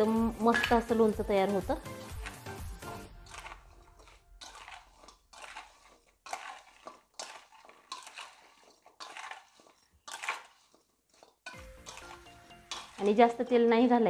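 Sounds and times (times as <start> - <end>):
metal spoon scraping steel bowl: 0.2 - 14.0.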